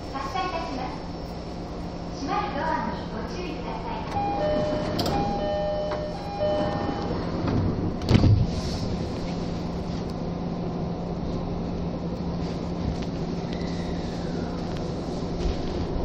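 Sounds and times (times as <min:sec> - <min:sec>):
train car low hum: 0:00.0 - 0:16.0.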